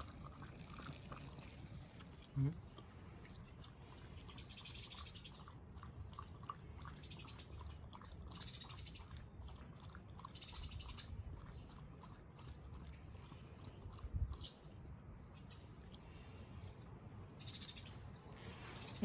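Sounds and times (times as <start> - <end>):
dog lapping water: 0.0 - 19.0.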